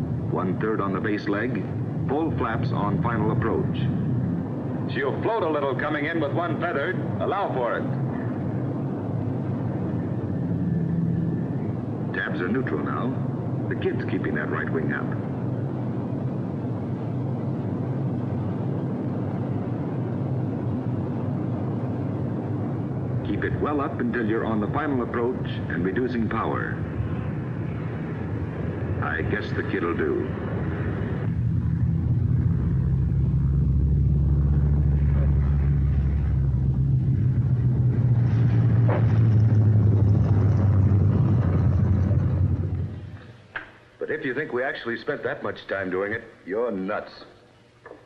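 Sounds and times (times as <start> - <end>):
propeller plane engines droning: 0.0 - 48.0.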